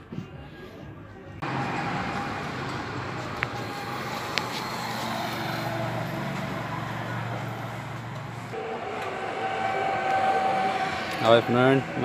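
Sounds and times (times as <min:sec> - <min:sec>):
low hum: 0:01.4 - 0:12.0.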